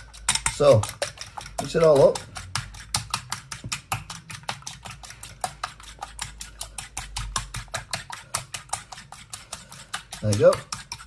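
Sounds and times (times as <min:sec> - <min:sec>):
fork beating eggs in a bowl: 0:00.0 - 0:11.0.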